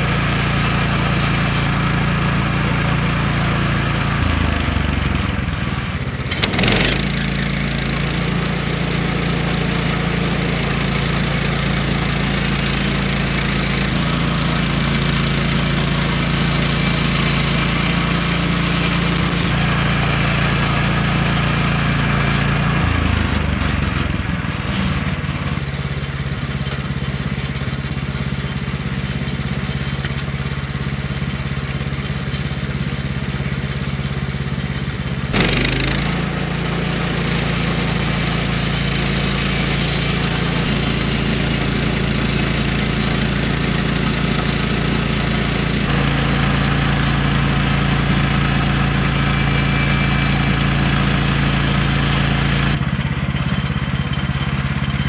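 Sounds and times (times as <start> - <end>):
saw blade cutting log: 0.0 - 25.7, 35.3 - 54.6
petrol engine running: 0.0 - 28.1, 31.1 - 55.0.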